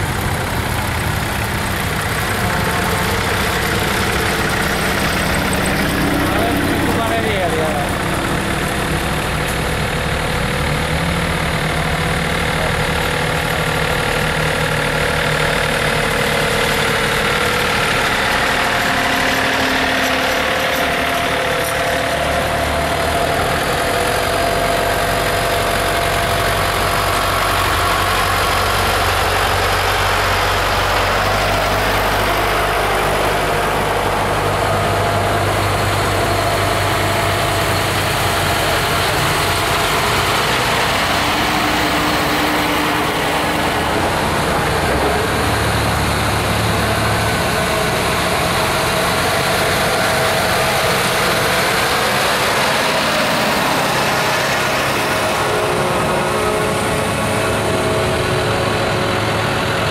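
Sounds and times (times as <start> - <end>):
deep low engine hum: 0.0 - 59.9
tractor diesel engines: 0.0 - 59.9.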